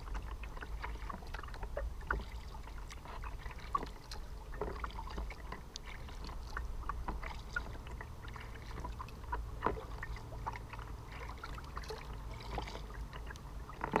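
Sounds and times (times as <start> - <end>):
low steady rumble: 0.0 - 14.0
water lapping against a kayak: 0.0 - 14.0.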